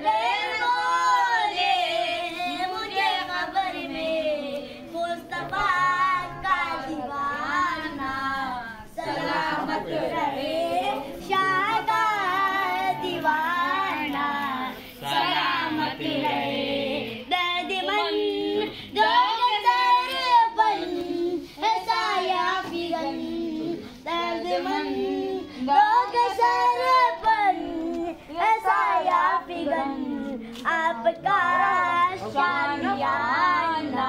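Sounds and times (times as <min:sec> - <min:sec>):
boy singing: 0:00.0 - 0:34.0.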